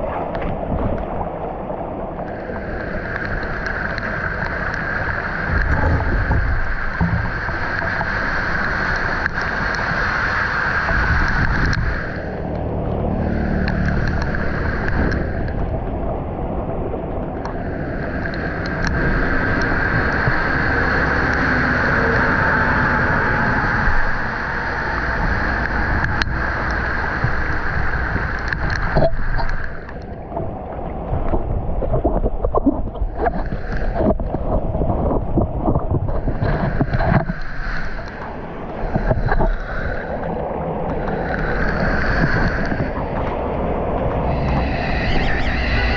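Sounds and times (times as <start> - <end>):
floodwater rushing and splashing: 0.0 - 45.9
wind buffeting microphone: 0.0 - 45.9.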